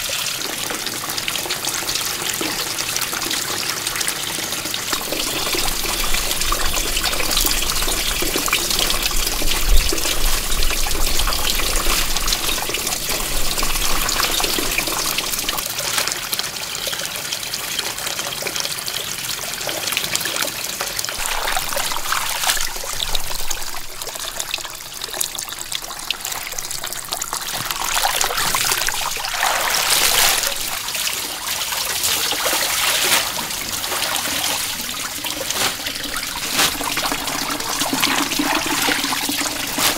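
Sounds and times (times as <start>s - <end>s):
water gushing: 0.0s - 39.9s
water pouring and trickling: 0.0s - 39.9s.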